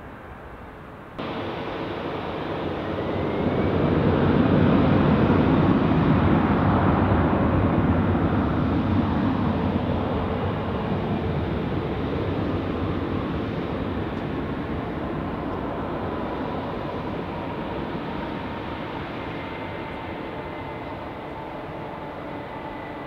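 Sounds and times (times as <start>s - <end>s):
faint rising whine: 1.2s - 23.0s
jet engines roaring: 1.2s - 23.0s.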